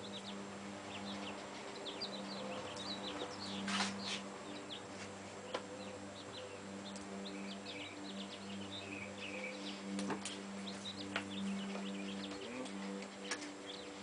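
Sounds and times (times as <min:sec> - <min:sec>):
low hum: 0:00.0 - 0:14.0
small birds chirping: 0:00.0 - 0:14.0.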